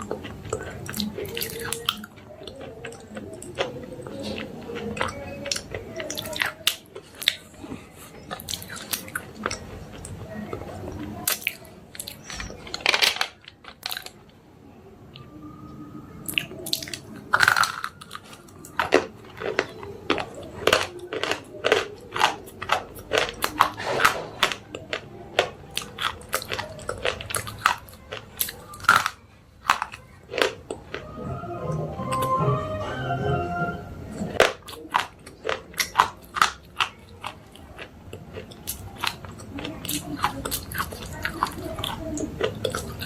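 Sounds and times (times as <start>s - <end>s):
crunchy chewing: 0.0s - 14.4s, 16.2s - 31.3s, 34.1s - 43.0s.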